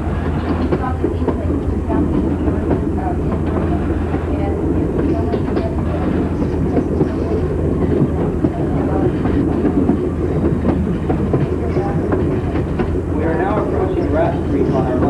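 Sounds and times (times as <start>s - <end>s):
rail joint clicks: 0.0s - 15.0s
train wheels rumbling: 0.0s - 15.0s.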